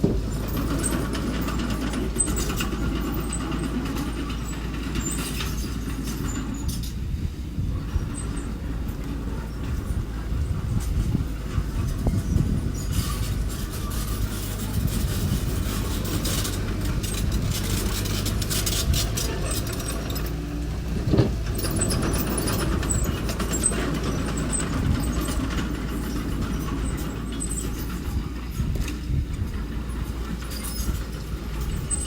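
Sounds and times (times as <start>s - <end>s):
metallic clanking and rattling: 0.0s - 32.0s
small bulldozer engine running: 0.0s - 32.0s.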